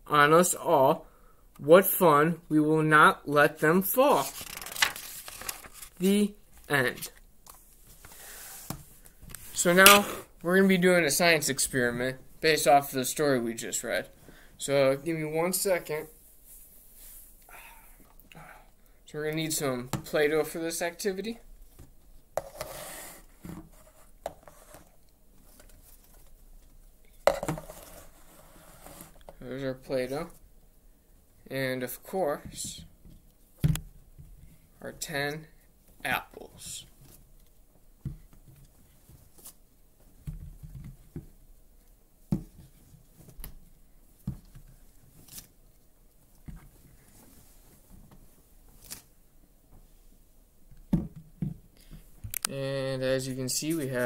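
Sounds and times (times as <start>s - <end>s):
rustling and handling noise: 3.8s - 18.2s, 19.3s - 31.4s, 35.6s - 52.5s.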